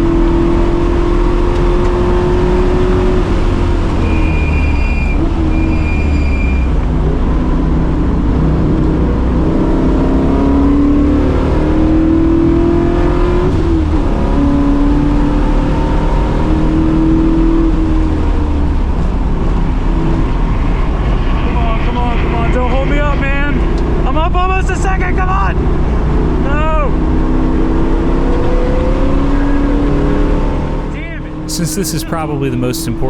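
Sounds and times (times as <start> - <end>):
car engine accelerating hard: 0.0 - 5.8, 6.8 - 31.6
road and wind noise: 0.0 - 30.9.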